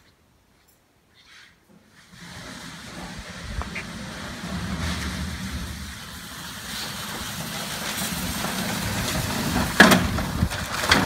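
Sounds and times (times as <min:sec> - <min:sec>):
cart rolling on concrete: 0:01.7 - 0:11.0.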